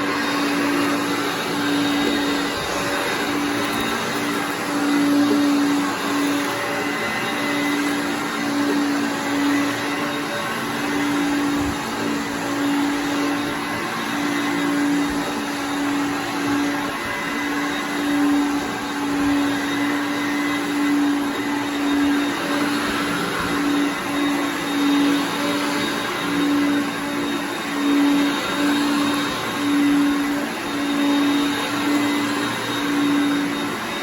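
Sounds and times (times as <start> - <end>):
vacuum cleaner on carpet: 0.0 - 34.0.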